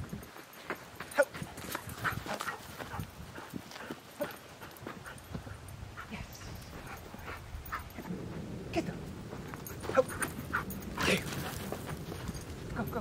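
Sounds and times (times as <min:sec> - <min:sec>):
footsteps on dry dirt: 0:00.0 - 0:13.0.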